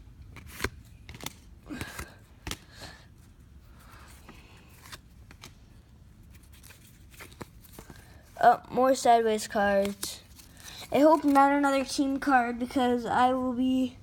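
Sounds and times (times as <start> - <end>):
cards rustling: 0.2 - 13.7.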